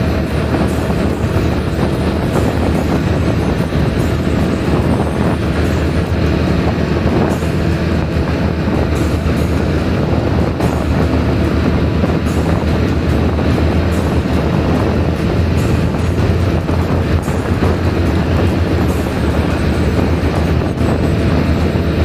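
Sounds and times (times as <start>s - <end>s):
motorcycle engine: 0.0s - 22.0s
road noise: 0.0s - 22.0s
wind on microphone: 0.0s - 22.0s.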